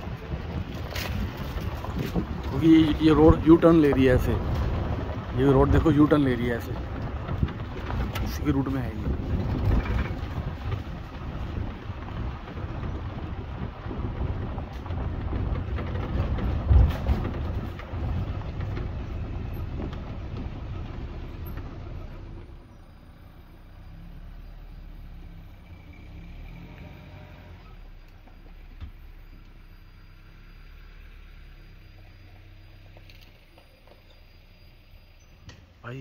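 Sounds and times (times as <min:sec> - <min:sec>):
engine idling: 0:00.0 - 0:36.0
vehicle engine running: 0:00.0 - 0:36.0.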